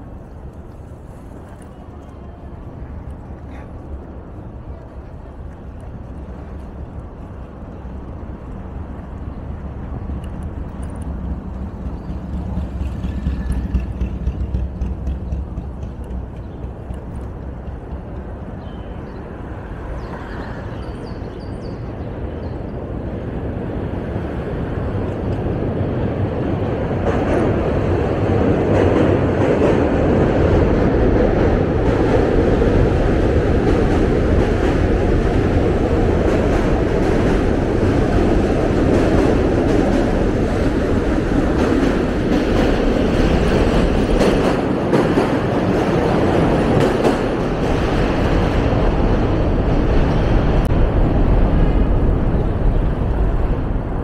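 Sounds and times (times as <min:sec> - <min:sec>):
traffic rumble: 0:00.0 - 0:54.0
train roaring: 0:00.0 - 0:54.0.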